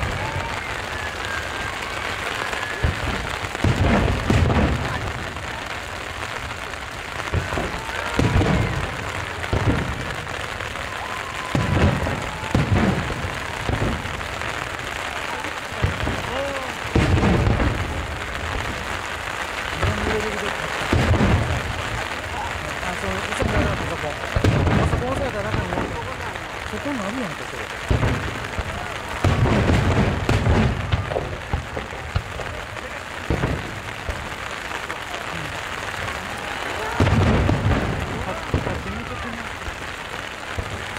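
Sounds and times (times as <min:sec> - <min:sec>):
fireworks booming: 0:00.0 - 0:40.9
rain hissing: 0:00.0 - 0:40.9.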